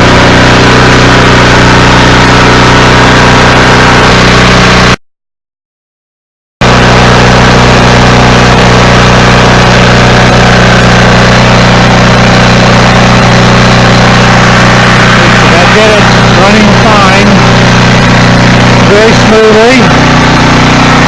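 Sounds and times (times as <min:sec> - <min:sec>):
portable generator engine running: 0:00.0 - 0:05.0, 0:06.6 - 0:21.0.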